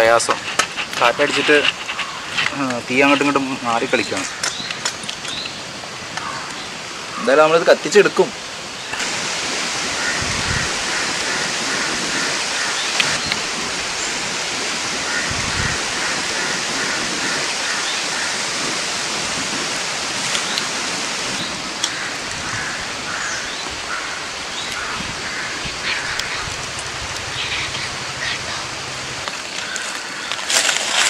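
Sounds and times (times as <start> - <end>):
wind rushing through leaves: 0.0 - 31.0.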